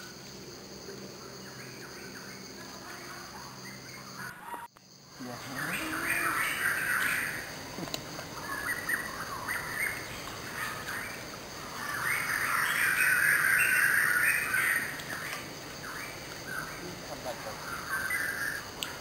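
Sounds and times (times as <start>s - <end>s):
birds chirping and calling: 1.3s - 19.0s.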